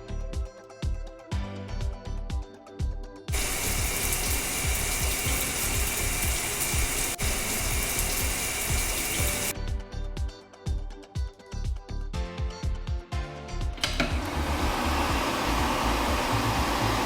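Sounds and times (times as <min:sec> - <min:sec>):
cartoon music with steady beat: 0:00.0 - 0:17.0.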